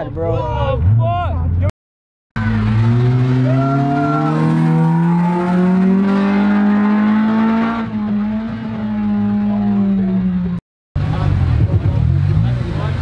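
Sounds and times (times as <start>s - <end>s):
car engine pulling away: 2.4s - 13.0s.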